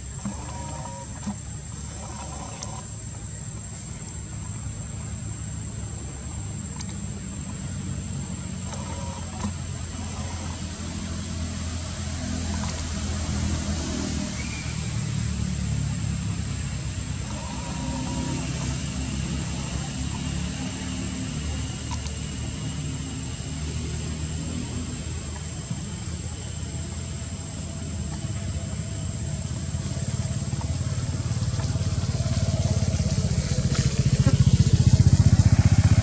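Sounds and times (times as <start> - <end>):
high-pitched whine: 0.0 - 36.0
vehicle engine rumbling: 0.0 - 36.0.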